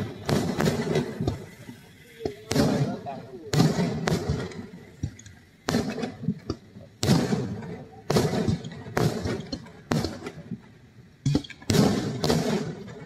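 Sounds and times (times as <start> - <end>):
fireworks bursting with echo: 0.0 - 13.0.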